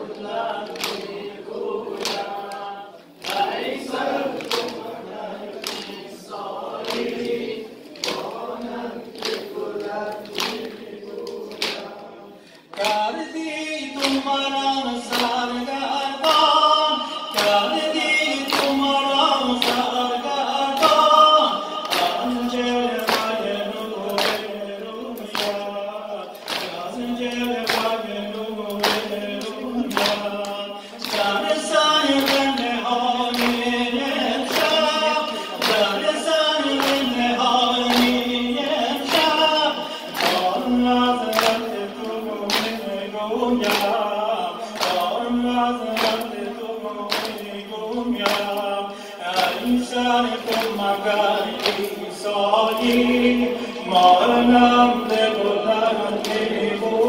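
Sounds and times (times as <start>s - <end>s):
man reciting: 0.0s - 57.0s
men chanting a lament: 0.0s - 57.0s.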